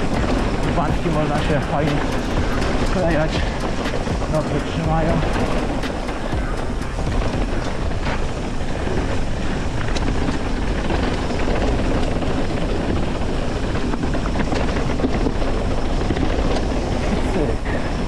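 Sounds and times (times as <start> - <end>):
bike clicks and rattles: 0.0 - 18.0
tyre rumble: 0.0 - 18.0
wind rushing on microphone: 0.0 - 18.0.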